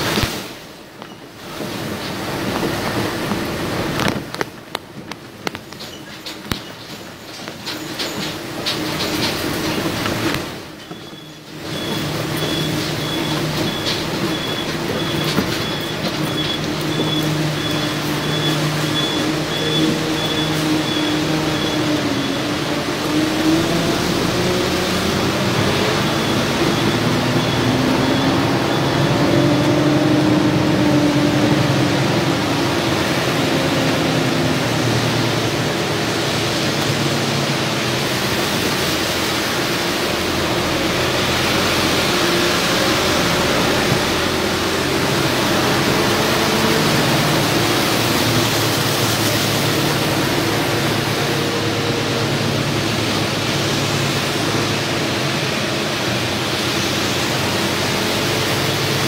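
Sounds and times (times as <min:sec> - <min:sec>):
vehicle engines running: 0:00.0 - 0:59.0
water rushing: 0:00.0 - 0:59.0.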